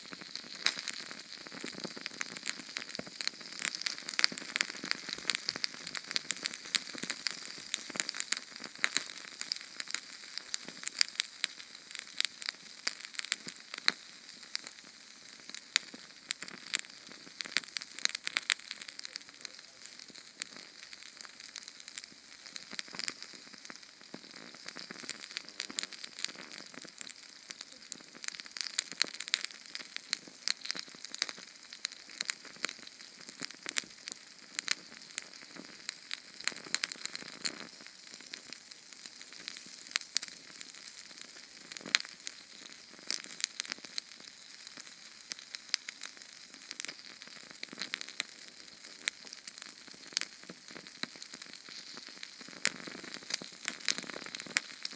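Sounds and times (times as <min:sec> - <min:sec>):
small flame hissing and crackling: 0:00.0 - 0:54.9.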